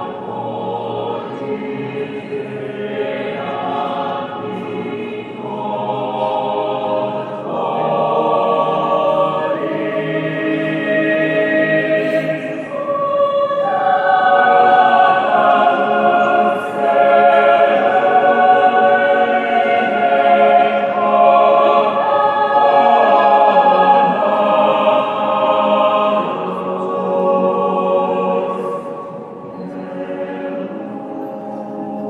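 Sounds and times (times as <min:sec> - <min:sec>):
choir singing sustained chords: 0:00.0 - 0:32.0.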